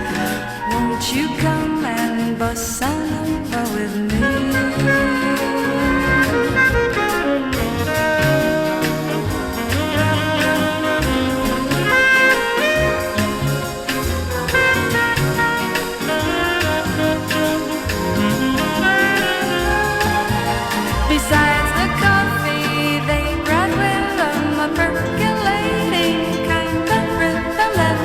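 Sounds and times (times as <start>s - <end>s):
instrumental bossa nova band: 0.0s - 28.0s.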